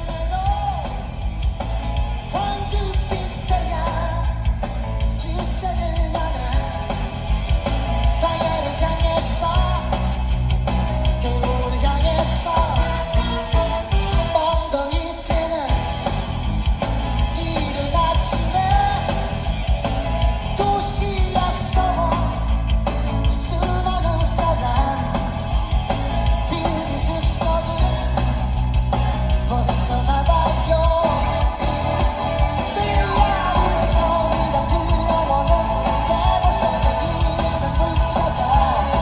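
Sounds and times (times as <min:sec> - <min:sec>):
rock song with singing: 0:00.0 - 0:39.0.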